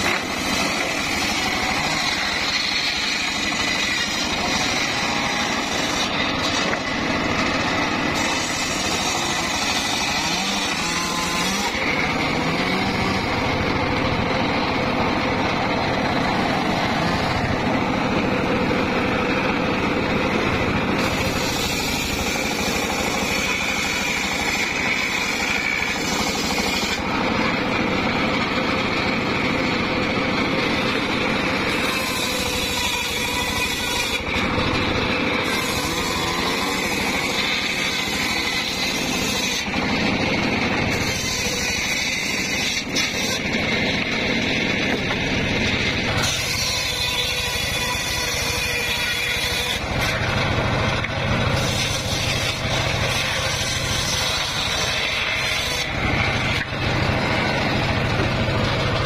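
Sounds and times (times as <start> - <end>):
saw blade hissing through wood: 0.0 - 19.6, 20.2 - 28.0, 30.6 - 43.9, 45.6 - 50.4, 51.3 - 58.0
circular sawmill running: 0.0 - 59.0.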